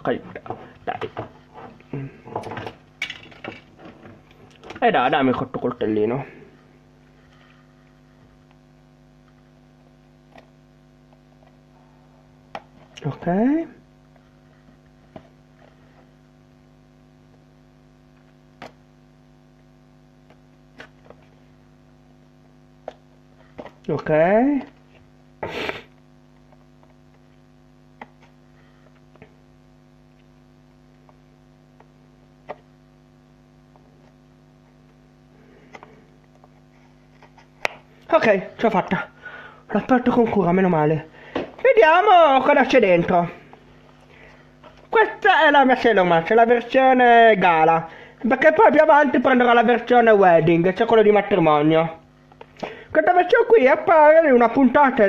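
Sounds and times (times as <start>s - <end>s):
mains hum: 0.0s - 55.0s.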